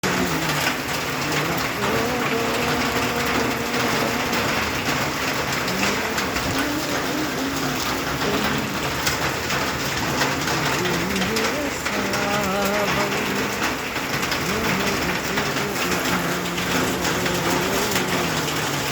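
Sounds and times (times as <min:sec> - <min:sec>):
steady rainfall hiss: 0:00.0 - 0:18.9.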